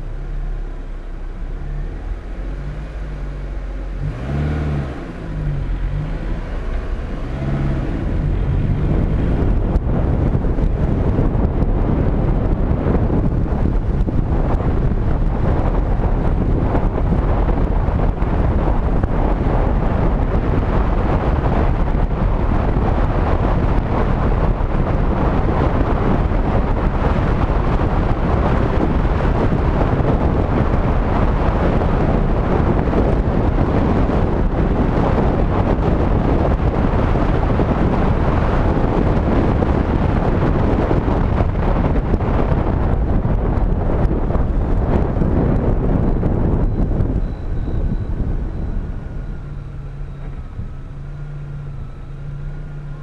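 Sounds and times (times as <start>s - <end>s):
road and engine noise: 0.0s - 53.0s
wind rushing on microphone: 0.0s - 53.0s.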